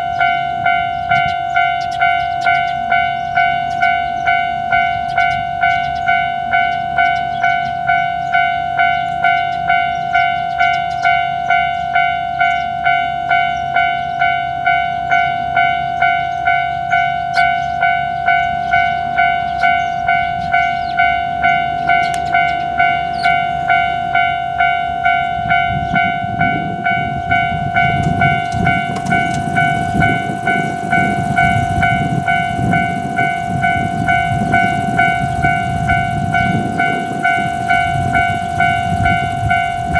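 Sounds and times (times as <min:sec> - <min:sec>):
level crossing warning bell: 0:00.0 - 0:39.9
train rumbling past: 0:00.0 - 0:39.9.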